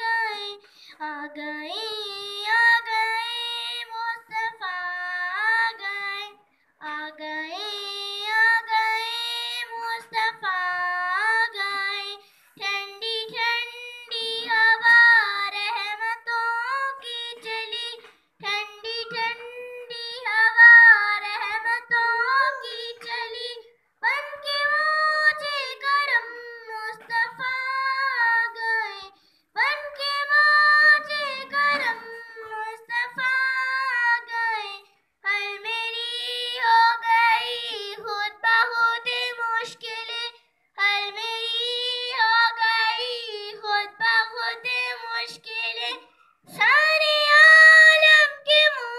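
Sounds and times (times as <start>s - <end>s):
girl singing into a microphone: 0.0s - 48.9s.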